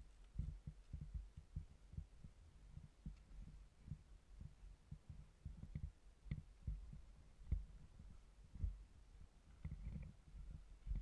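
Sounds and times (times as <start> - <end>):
muffled low thumps of footsteps: 0.0 - 11.0.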